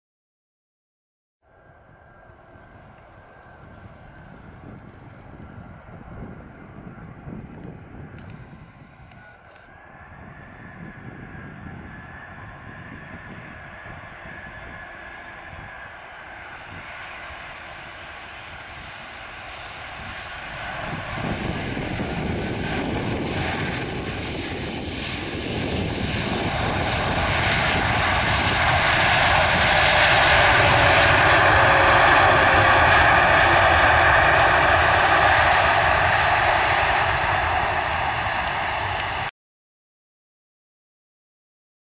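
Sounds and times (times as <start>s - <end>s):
jet engines rushing with whine: 1.5s - 39.3s.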